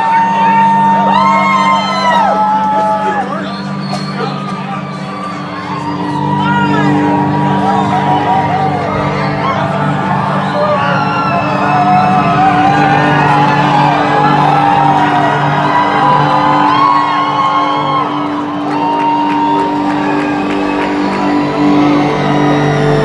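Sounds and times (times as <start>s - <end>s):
crowd shouts and whoops: 0.0s - 23.0s.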